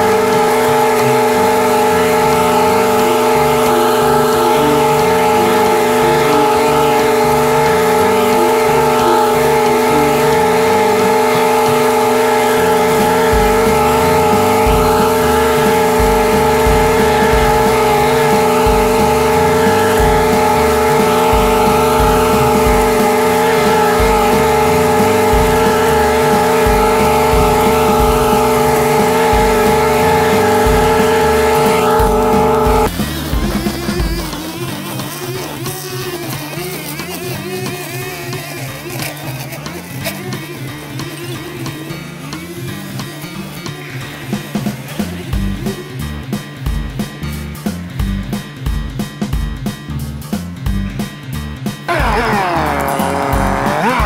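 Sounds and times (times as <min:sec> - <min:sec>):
mower engine running: 0:00.0 - 0:48.0, 0:51.9 - 0:54.0.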